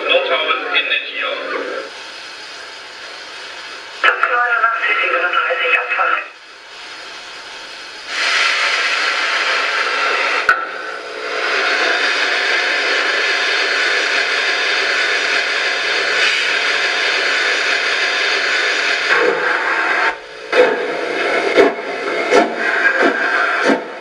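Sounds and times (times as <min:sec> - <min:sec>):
steam hiss from loudspeaker: 0:00.0 - 0:24.0.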